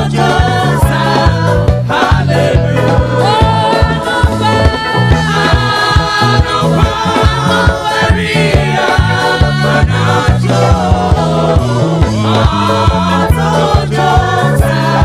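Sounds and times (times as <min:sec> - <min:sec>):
backing vocalists: 0:00.0 - 0:15.0
band with steady beat: 0:00.0 - 0:15.0
lead singer: 0:00.0 - 0:15.0.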